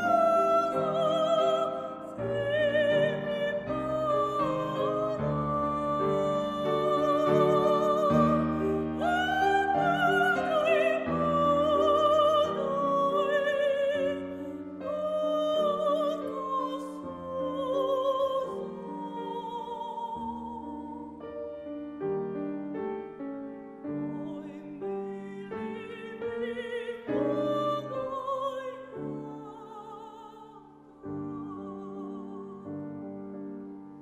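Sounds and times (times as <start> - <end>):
soprano singing with vibrato: 0.0 - 21.9, 23.8 - 33.6
grand piano: 0.0 - 34.0.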